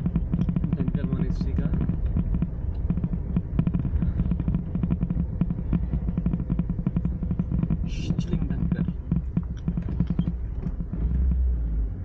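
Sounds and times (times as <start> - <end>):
rattling clicks from car body: 0.0 - 11.5
vehicle engine and road drone: 0.0 - 12.0.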